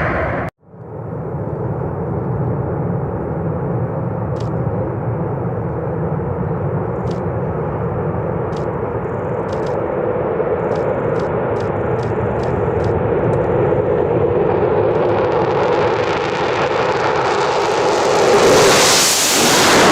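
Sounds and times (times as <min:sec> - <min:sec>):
aircraft rumble: 0:00.0 - 0:19.9.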